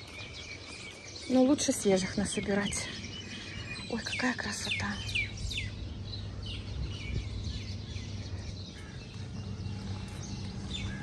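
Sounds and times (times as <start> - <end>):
birds chirping: 0.0 - 11.0
low outdoor hum: 0.0 - 11.0.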